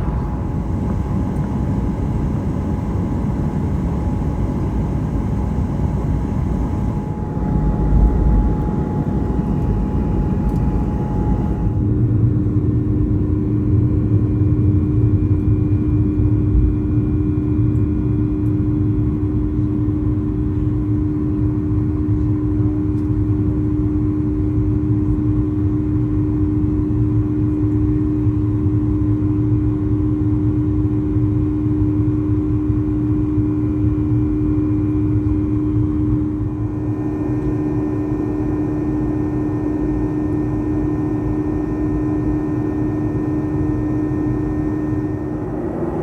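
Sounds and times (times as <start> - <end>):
jet engine drone in cabin: 0.0 - 46.0.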